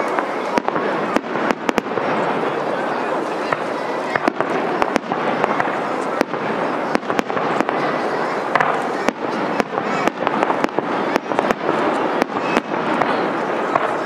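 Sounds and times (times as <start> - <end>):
firework bangs and cracks: 0.0 - 14.0
steady background noise: 0.0 - 14.0.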